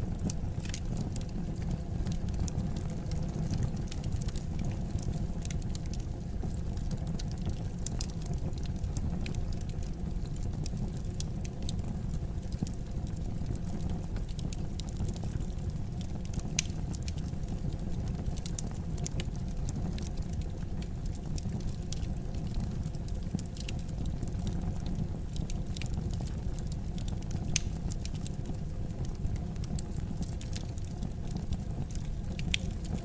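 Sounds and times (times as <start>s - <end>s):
fire crackling: 0.0s - 33.0s.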